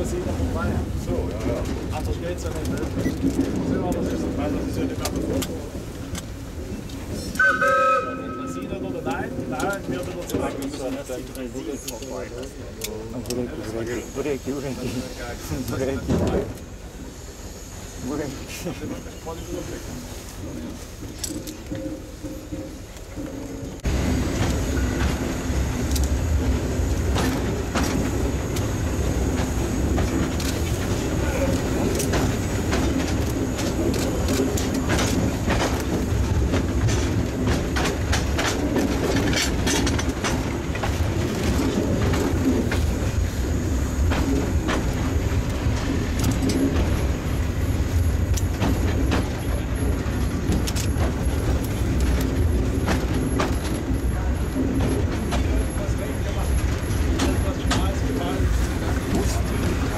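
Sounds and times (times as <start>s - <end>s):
locomotive clanks and clicks: 0.0s - 59.9s
steam locomotive rumbling: 0.0s - 59.9s.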